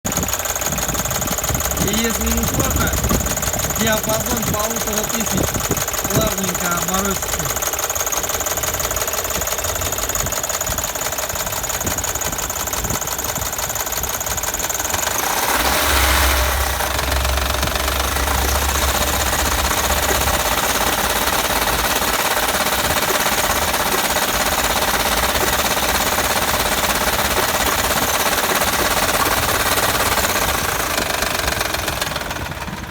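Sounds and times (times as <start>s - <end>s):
engine knocking: 0.0s - 32.9s.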